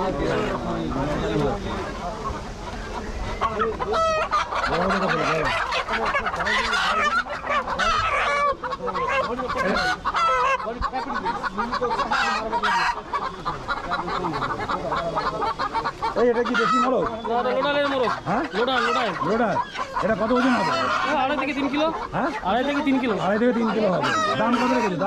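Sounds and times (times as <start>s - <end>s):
chickens clucking and squawking: 0.0s - 25.0s.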